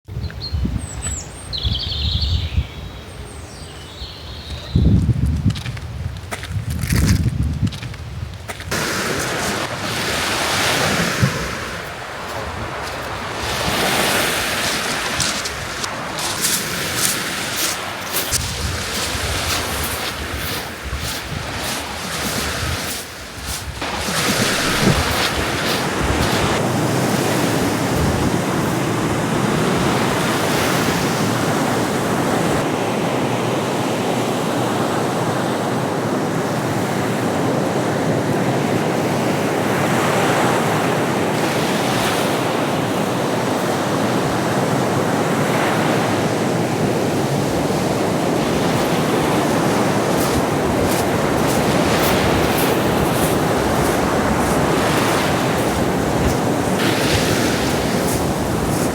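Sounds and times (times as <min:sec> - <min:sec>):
wind blowing: 0:00.1 - 0:32.7, 0:41.3 - 0:58.9
waves washing: 0:07.7 - 0:58.9.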